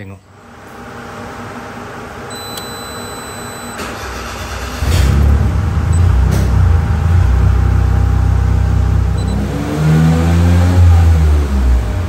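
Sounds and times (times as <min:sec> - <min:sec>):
car engine starting and idling: 0:01.7 - 0:12.0.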